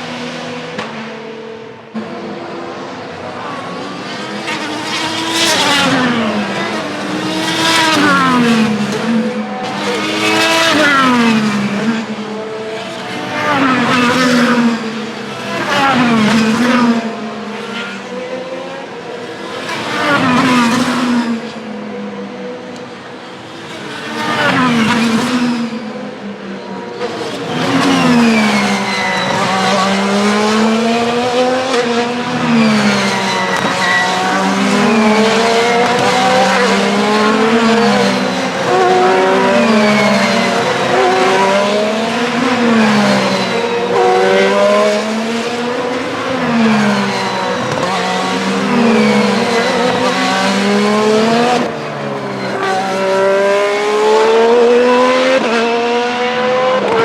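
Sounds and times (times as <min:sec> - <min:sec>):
race cars passing: 0:00.0 - 0:57.0.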